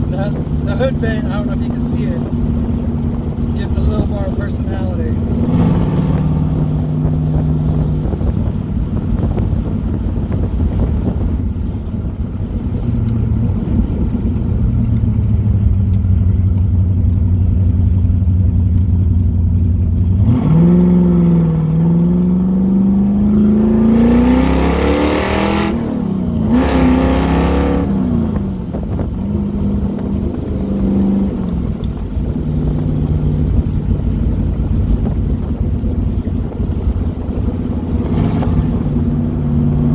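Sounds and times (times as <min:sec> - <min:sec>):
car engine accelerating through gears: 0:00.0 - 0:39.9.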